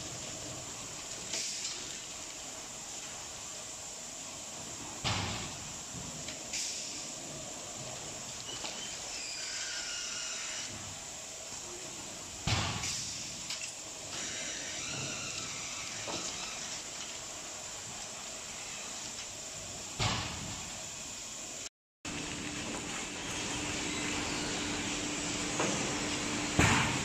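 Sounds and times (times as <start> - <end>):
steady machine hiss: 0.0 - 27.0.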